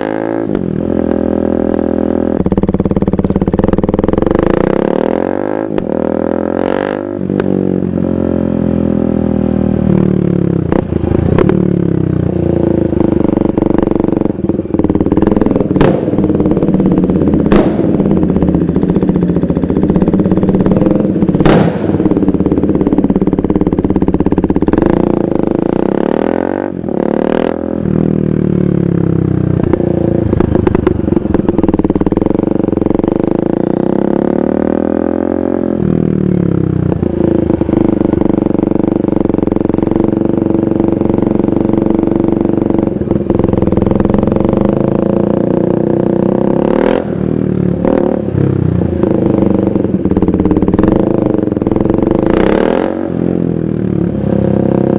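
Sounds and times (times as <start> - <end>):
motorcycle engine revving through gears: 0.0 - 54.9
sharp exhaust cracks: 0.4 - 7.5, 10.1 - 28.1, 28.9 - 34.5, 36.0 - 53.1.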